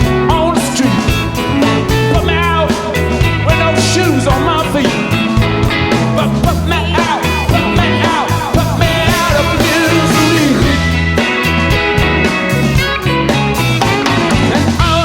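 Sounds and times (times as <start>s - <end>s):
person singing: 0.0s - 11.3s, 14.0s - 15.0s
rock song: 0.0s - 15.0s.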